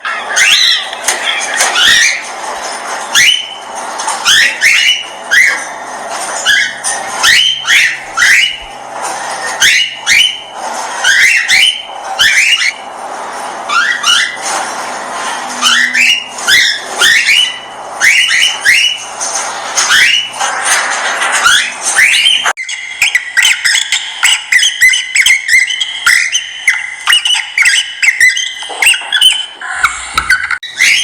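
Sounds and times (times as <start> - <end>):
parrots chirping: 0.0 - 31.0.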